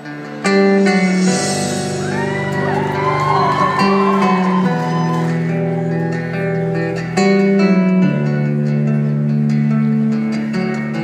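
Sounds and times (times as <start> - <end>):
acoustic guitar: 0.0 - 11.0.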